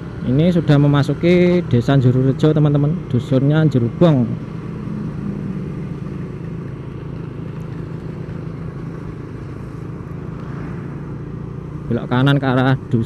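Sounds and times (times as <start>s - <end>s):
road and wind noise: 0.0s - 13.0s
vehicle engine hum: 0.0s - 13.0s.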